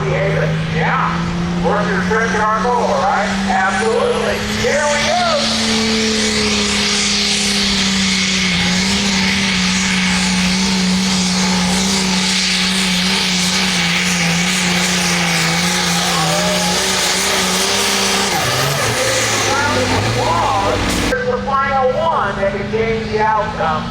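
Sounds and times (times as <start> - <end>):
tractor engine at full throttle: 0.0 - 23.9.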